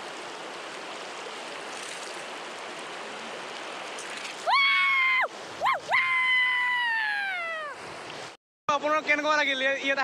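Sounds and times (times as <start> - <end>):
river water rushing: 0.0 - 8.4.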